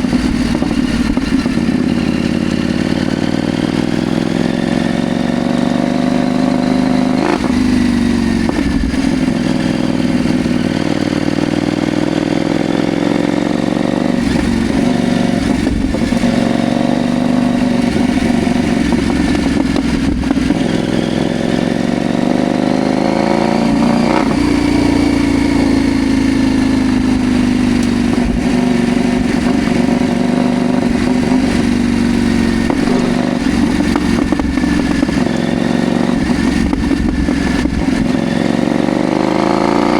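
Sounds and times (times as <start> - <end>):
motorcycle engine running: 0.0 - 39.9
motorcycle gear changes: 0.0 - 39.9.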